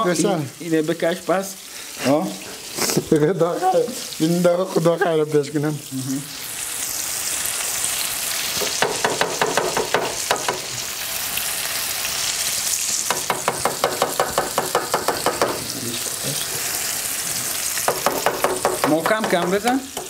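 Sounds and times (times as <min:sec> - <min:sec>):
sauce sizzling in frying pan: 0:00.0 - 0:20.0.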